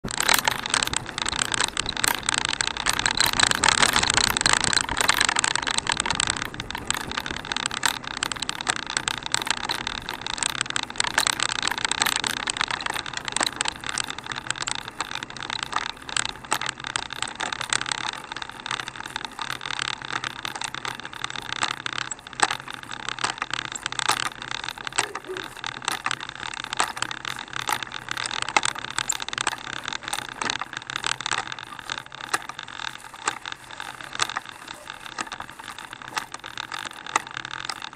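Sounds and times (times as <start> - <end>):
tyre and wind noise: 0.0 - 37.9.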